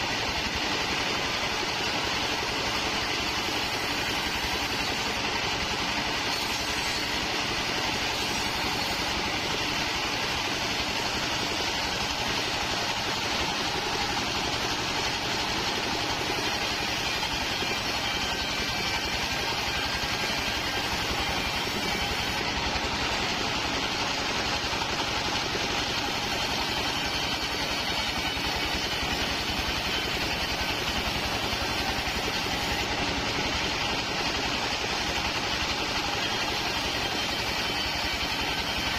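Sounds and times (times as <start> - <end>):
band sawmill running: 0.0 - 38.9.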